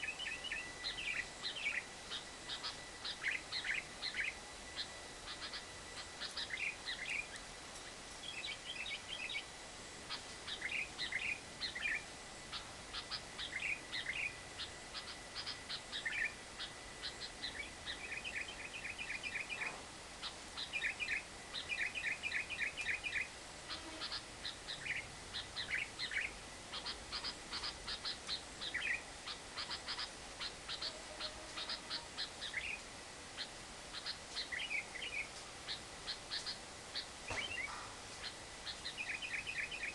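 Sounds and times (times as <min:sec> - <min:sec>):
lovebird chattering: 0:00.0 - 0:39.9
steady hiss: 0:00.0 - 0:39.9.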